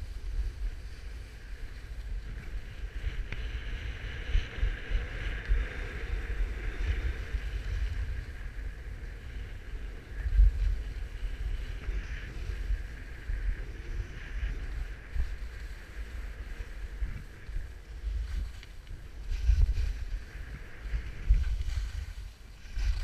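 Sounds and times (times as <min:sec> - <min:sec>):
skis sliding on snow: 0:00.0 - 0:23.0
wind buffeting microphone: 0:00.0 - 0:23.0.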